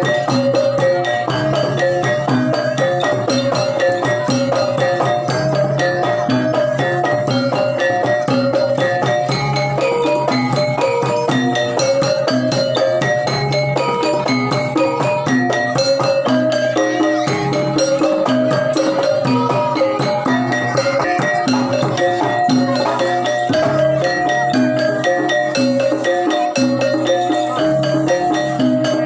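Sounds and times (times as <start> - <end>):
metallophones playing quick melody: 0.0 - 29.0
rattling percussion: 0.0 - 29.0.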